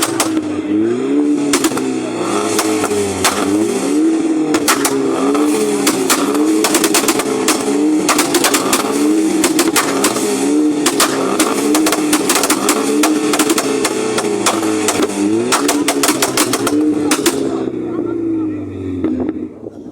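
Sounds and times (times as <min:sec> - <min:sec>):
exhaust pops and bangs: 0:00.0 - 0:18.0
car engine revving: 0:00.0 - 0:19.9.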